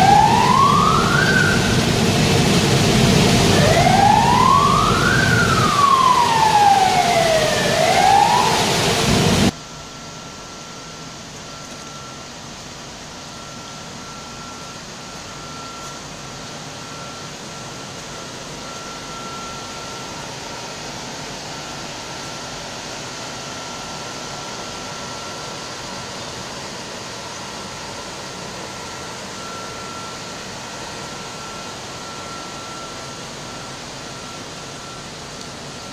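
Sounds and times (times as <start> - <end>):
wailing siren: 0.0 - 9.6, 13.2 - 26.1, 27.5 - 35.9
dense machinery noise: 0.0 - 35.9
machine hum with high whine: 0.0 - 35.9.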